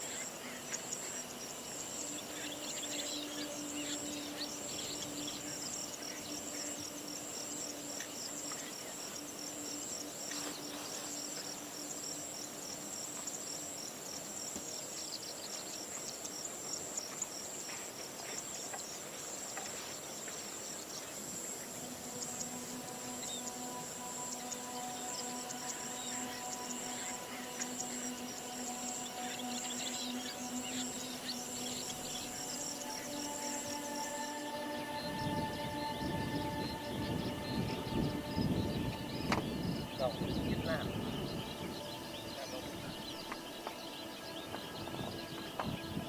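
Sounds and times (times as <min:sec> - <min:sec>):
high-pitched insect chorus: 0:00.0 - 0:46.0
short scattered insect calls: 0:00.0 - 0:46.0.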